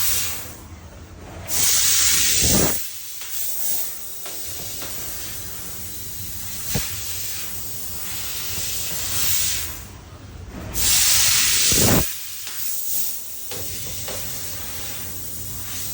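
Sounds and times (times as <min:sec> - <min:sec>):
laser cutter gas rushing: 0:01.5 - 0:09.9, 0:10.8 - 0:15.9.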